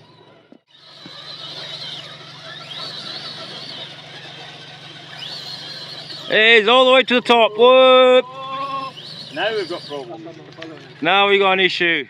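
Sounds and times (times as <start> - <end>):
small electric motor whining: 0.0 - 11.6
steady low hum: 0.0 - 12.0.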